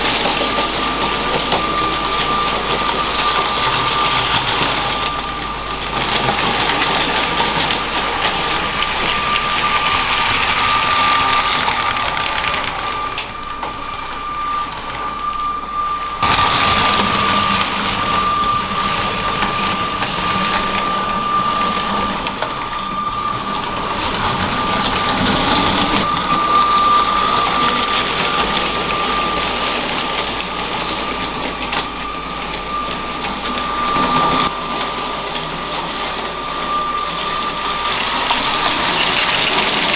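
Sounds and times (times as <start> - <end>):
toy train electric motor whine: 0.0 - 39.9
train rattling on track: 0.0 - 39.9.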